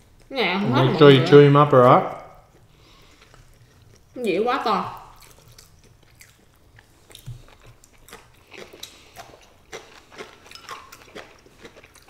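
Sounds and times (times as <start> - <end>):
people chewing noodles: 0.0 - 12.0.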